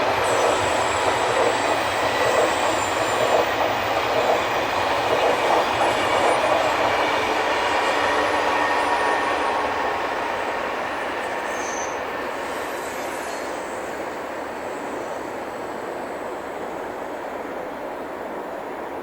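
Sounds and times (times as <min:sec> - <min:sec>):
electric train rumbling on track: 0:00.0 - 0:19.0.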